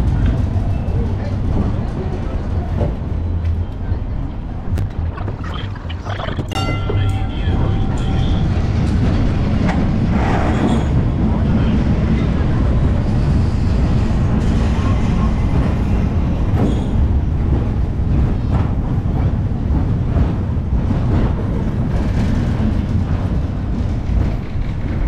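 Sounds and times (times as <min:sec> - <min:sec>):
tram rumbling over track: 0:00.0 - 0:25.0.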